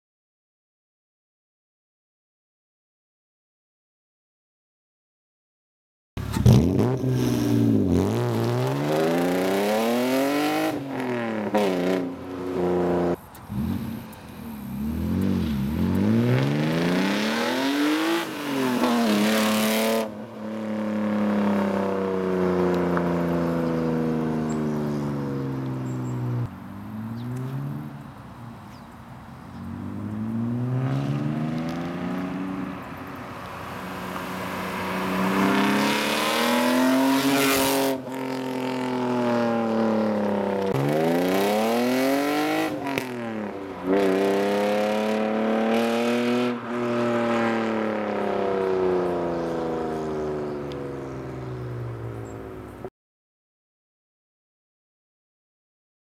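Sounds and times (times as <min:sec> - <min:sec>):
car engine revving: 0:06.2 - 0:28.7, 0:29.4 - 0:52.4.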